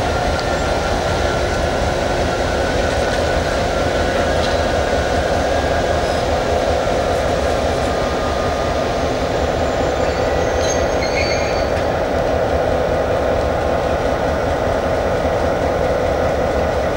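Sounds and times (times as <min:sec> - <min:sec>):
diesel locomotive engines running: 0:00.0 - 0:16.9.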